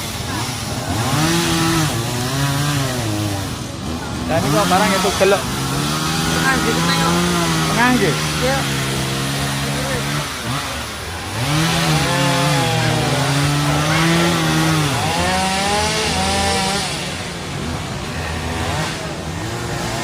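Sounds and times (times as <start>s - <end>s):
small engine revving: 0.0s - 20.0s
wind: 0.0s - 20.0s.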